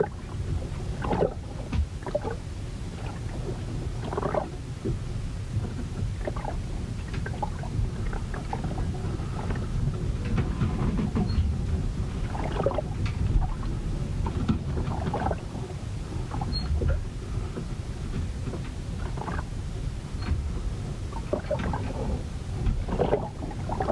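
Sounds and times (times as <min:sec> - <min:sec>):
rumble of wind and water: 0:00.0 - 0:23.9.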